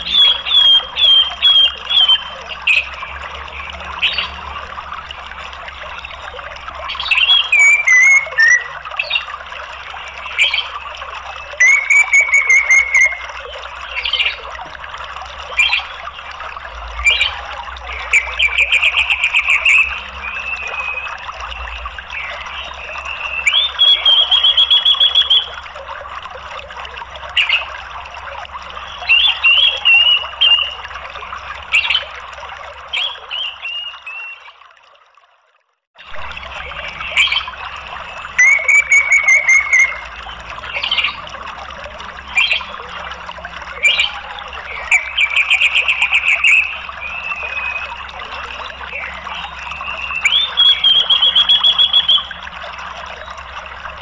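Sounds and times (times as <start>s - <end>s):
thrush warbling and trilling: 0.0s - 34.6s, 36.0s - 54.0s
running water rushing: 0.0s - 54.0s.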